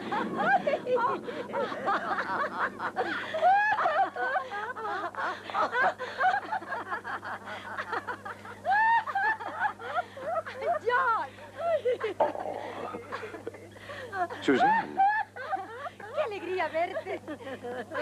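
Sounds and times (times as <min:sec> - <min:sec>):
women laughing and giggling: 0:00.0 - 0:18.0.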